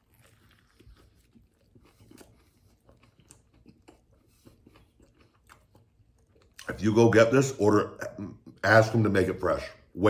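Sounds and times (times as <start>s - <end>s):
faint chewing with crunches: 0.0s - 9.9s.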